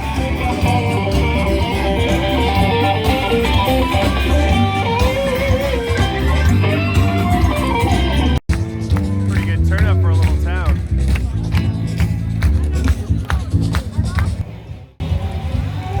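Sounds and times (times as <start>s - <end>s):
electric guitar: 0.0s - 14.4s
band playing live: 0.0s - 16.0s
bass line: 0.0s - 16.0s.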